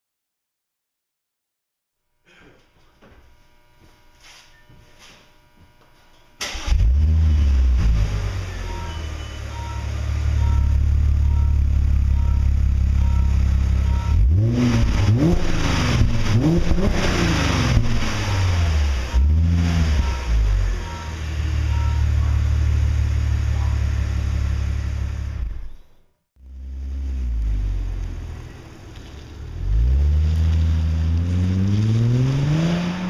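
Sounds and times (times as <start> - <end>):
car engine revving: 6.4 - 33.0
car engine starting and idling: 6.4 - 33.0.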